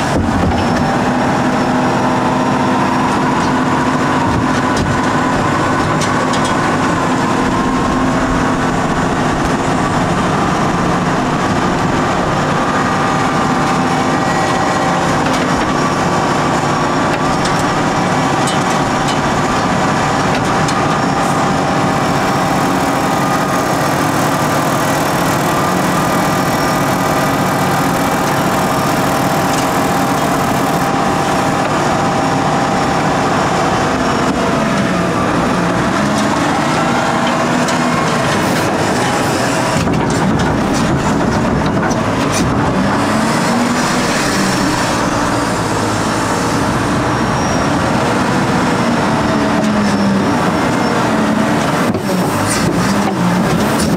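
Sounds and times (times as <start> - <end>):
wheel loader diesel engine: 0.0 - 53.9.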